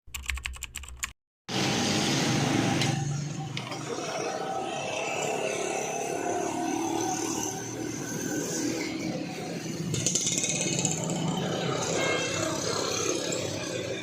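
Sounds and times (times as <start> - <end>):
motorcycles: 1.5 - 14.0
street traffic: 1.5 - 14.0.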